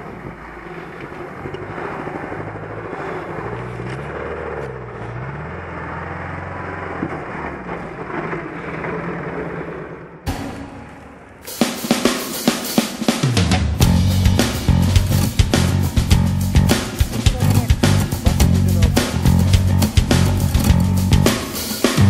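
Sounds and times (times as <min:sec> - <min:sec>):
off-road vehicle engine labouring: 0:00.0 - 0:10.3, 0:13.8 - 0:22.0.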